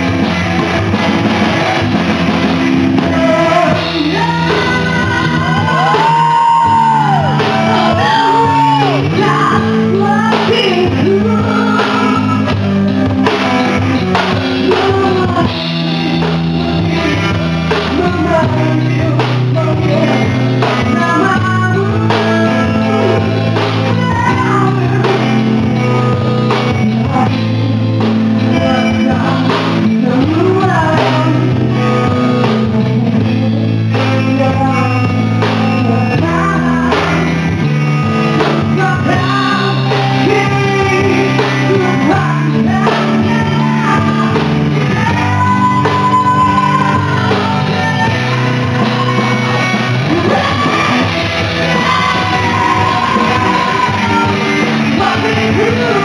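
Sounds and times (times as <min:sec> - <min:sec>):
bass guitar: 0:00.0 - 0:56.0
drum kit: 0:00.0 - 0:56.0
electric guitars: 0:00.0 - 0:56.0
lead vocal singing: 0:00.0 - 0:56.0.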